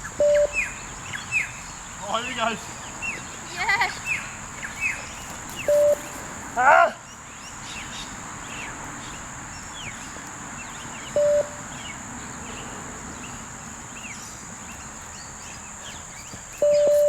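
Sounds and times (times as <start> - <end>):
bird chirps: 0.0 - 17.0
high insect drone: 0.0 - 17.0.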